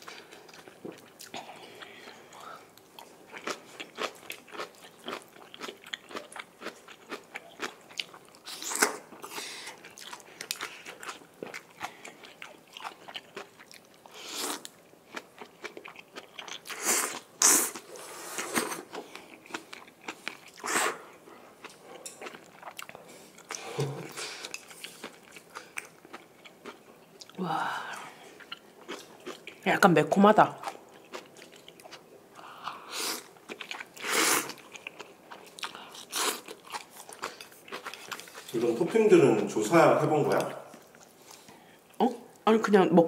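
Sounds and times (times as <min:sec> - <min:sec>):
wet chewing with mouth clicks: 0:00.0 - 0:29.6, 0:30.6 - 0:39.0.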